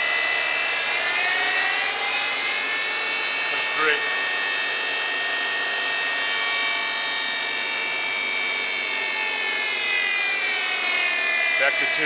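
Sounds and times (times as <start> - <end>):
lathe high-pitched whine: 0.0 - 12.0.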